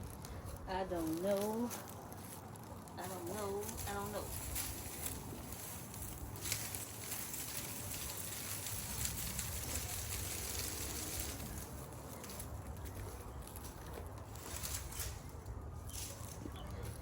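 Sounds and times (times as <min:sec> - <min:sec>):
dead plants rustling and crackling: 0:00.0 - 0:17.0.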